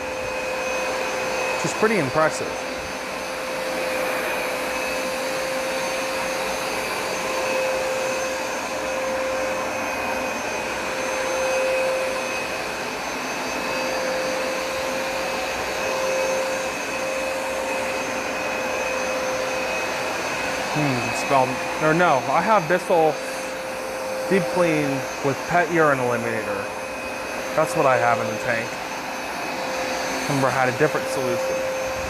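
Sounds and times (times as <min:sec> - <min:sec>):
carpet cleaner motor whine: 0:00.0 - 0:32.0.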